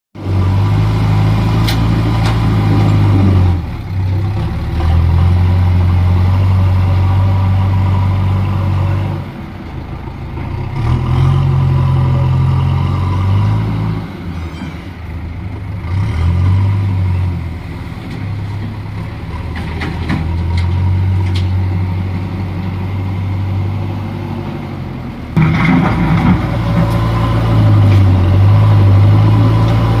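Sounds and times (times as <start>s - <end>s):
diesel engine droning: 0.2s - 30.0s.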